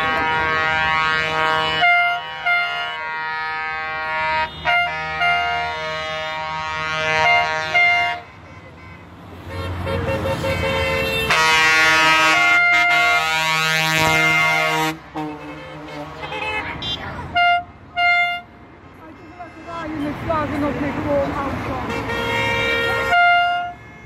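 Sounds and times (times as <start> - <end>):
vehicle horns honking: 0.0 - 24.0.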